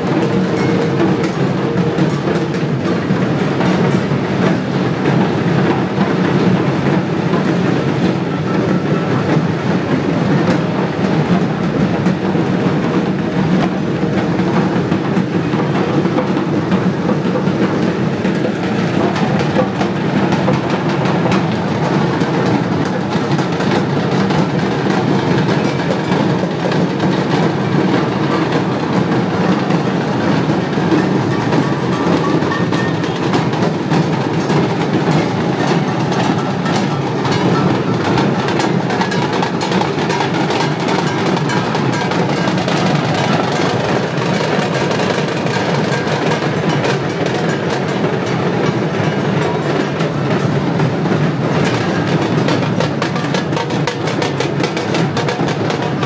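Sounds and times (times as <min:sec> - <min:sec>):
rapid drumming of drum band: 0:00.0 - 0:56.0.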